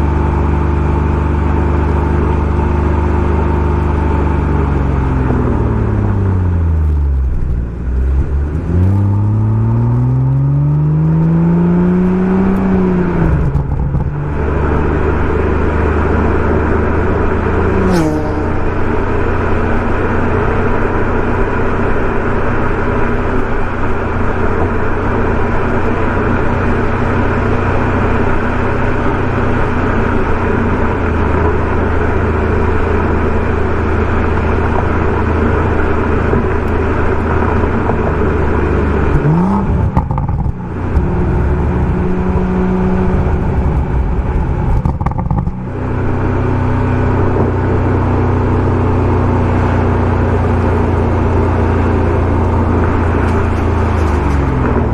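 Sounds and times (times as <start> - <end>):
car engine at steady revs: 0.0 - 54.9.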